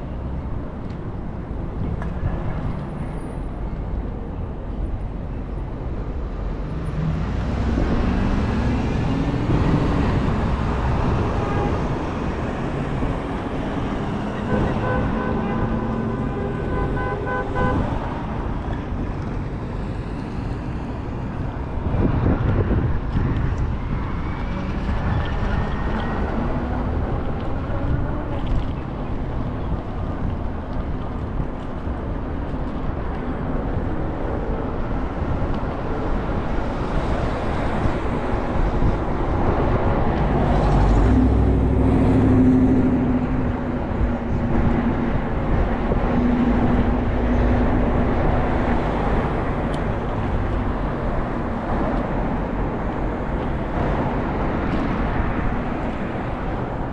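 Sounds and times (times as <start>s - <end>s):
road and engine rumble: 0.0s - 56.9s.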